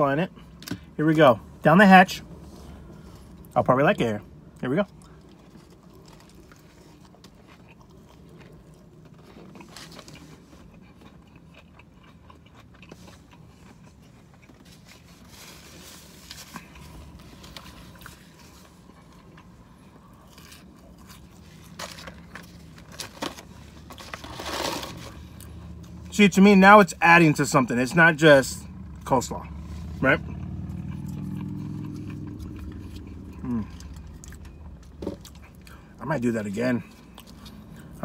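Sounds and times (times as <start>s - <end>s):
man chewing crispy food: 4.3s - 26.6s, 29.3s - 38.0s.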